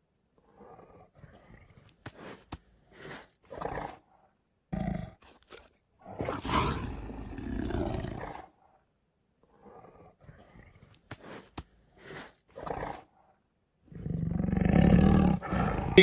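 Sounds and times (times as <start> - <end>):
tiger growls and roars: 0.3 - 8.8, 9.4 - 16.0.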